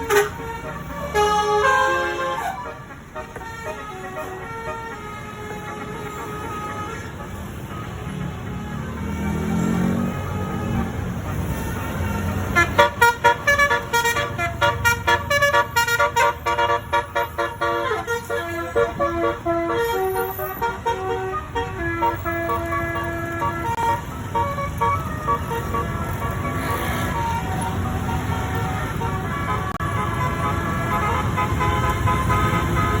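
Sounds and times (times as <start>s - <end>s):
low rumble of bus engines: 0.0s - 33.0s
musical bus horns melody: 0.0s - 33.0s.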